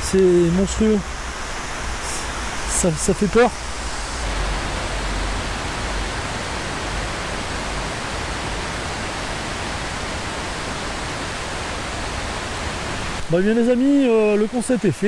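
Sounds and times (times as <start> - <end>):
river rushing through rocky gorge: 0.0 - 15.0.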